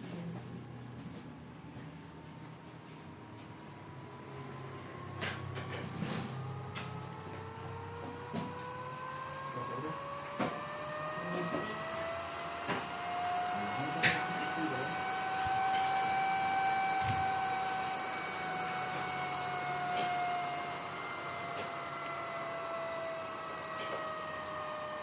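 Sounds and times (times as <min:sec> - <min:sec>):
cooling fan whining: 0:00.0 - 0:25.0.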